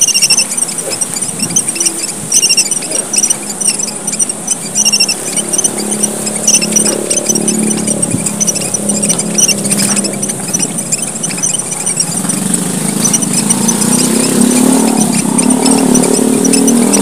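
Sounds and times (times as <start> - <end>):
finches chirping: 0.0 - 17.0
motor engine humming: 0.0 - 17.0.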